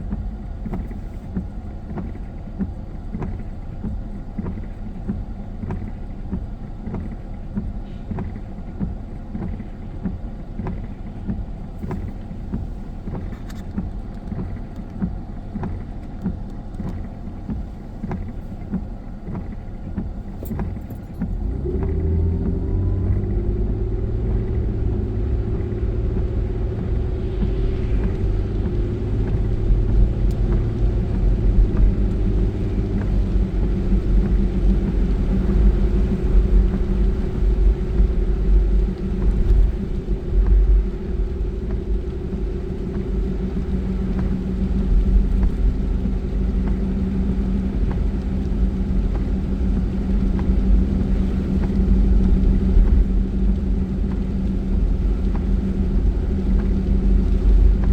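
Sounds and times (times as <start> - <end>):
car engine and road rumble: 0.0 - 57.9.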